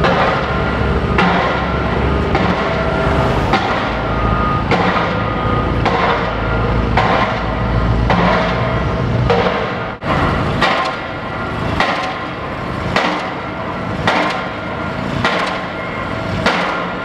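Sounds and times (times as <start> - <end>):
pile driver striking: 0.0 - 11.2, 11.8 - 15.8, 16.4 - 17.0
heavy machinery engines rumbling: 0.0 - 17.0.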